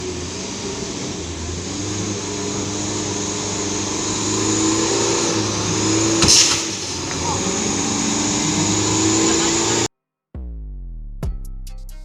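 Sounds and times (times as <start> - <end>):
truck diesel engine revving: 0.0 - 9.9.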